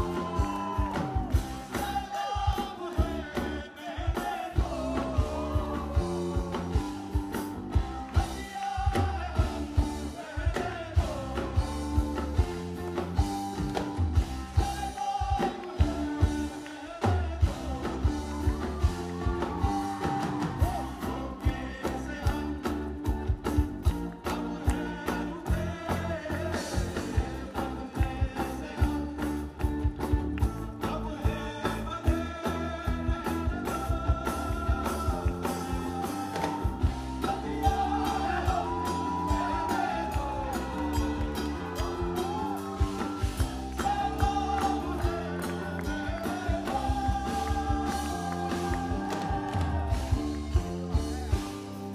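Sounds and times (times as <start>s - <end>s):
person singing: 0.0s - 7.5s, 8.1s - 51.9s
live band playing: 0.0s - 51.9s.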